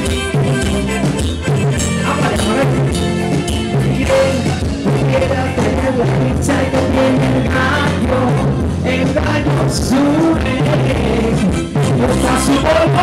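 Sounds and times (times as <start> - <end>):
dance band playing: 0.0 - 13.0
person singing: 0.0 - 13.0.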